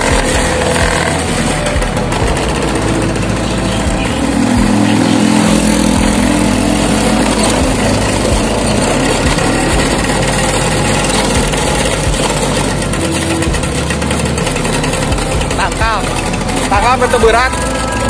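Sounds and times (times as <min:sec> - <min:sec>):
motor scooter engine running: 0:00.0 - 0:18.0.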